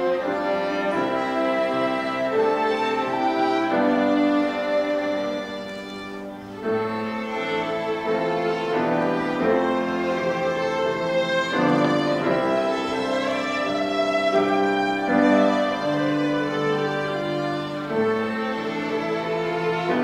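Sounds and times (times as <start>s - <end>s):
slow sad string ensemble: 0.0s - 20.0s.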